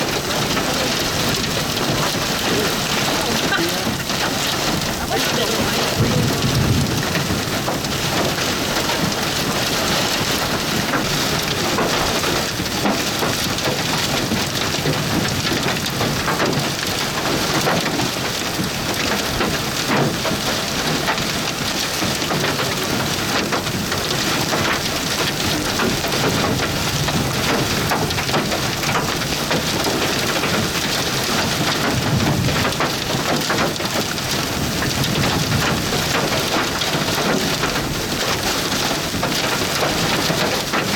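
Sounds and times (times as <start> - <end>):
heavy rain on hard surface: 0.0 - 40.9.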